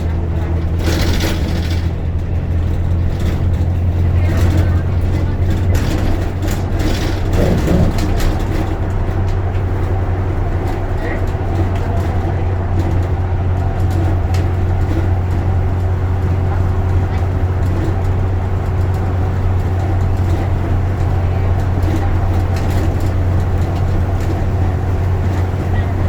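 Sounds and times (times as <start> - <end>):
bus engine and road noise: 0.0 - 26.0
faint clicks and rattles: 0.0 - 26.0.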